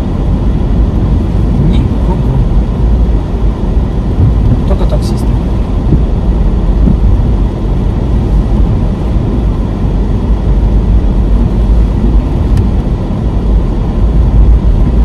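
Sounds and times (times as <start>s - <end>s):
car driving on wet road: 0.0s - 15.0s.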